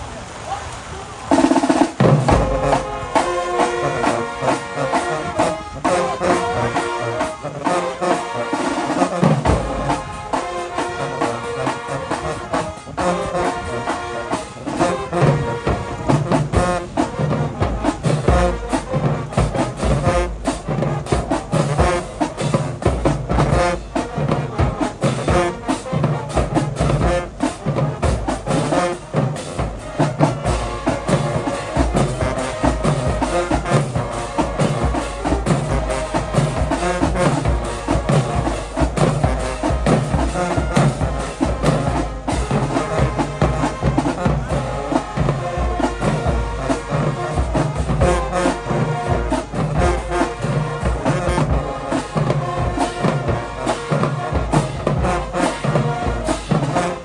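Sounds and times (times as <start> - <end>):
brass horns playing tune: 1.3 - 57.0
steady drum beat: 1.3 - 57.0.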